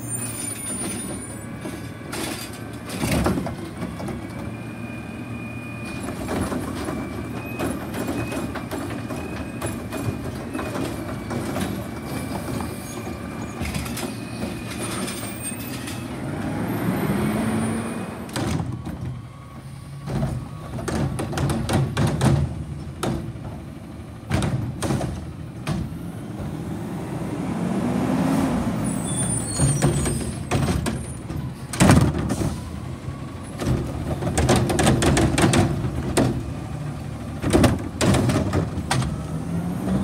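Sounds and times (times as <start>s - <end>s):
garbage truck engine rumble: 0.0s - 40.0s.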